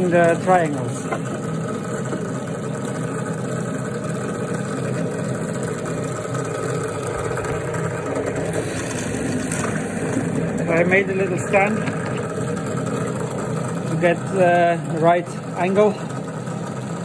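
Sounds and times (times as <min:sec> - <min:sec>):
drill press motor humming: 0:00.0 - 0:17.0.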